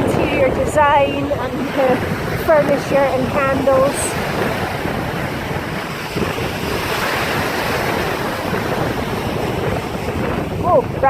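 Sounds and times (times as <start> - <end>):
sea waves breaking on shore: 0.0 - 11.0
wind buffeting microphone: 0.0 - 11.0.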